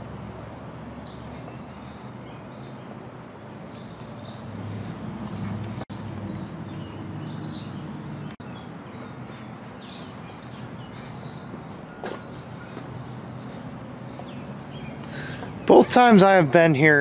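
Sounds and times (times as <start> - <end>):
small birds chirping: 1.0 - 16.6.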